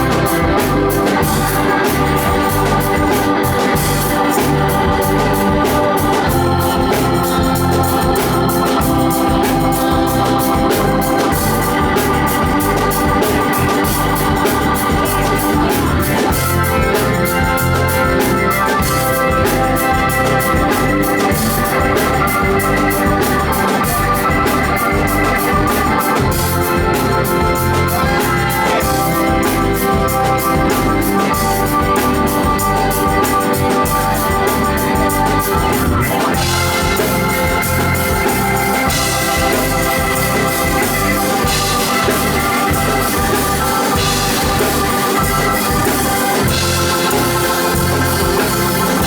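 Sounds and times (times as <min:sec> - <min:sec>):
organ chords: 0:00.0 - 0:49.0
pulsing bass line: 0:00.0 - 0:49.0
steady drums: 0:00.0 - 0:49.0.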